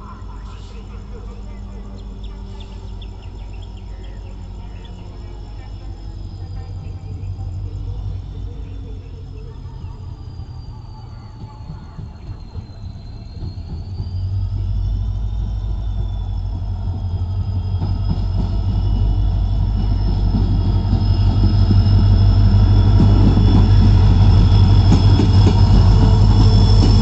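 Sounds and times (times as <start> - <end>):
diesel locomotive engine drone: 0.0 - 27.0.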